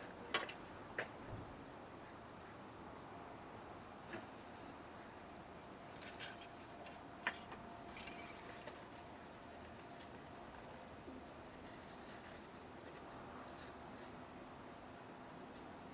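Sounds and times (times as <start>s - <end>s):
faint steady tone: 0.0s - 15.9s.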